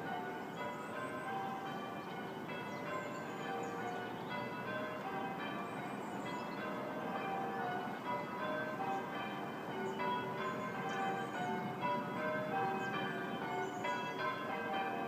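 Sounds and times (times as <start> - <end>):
church bells pealing: 0.0 - 15.0
songbirds chirping: 0.4 - 7.6, 8.7 - 14.3.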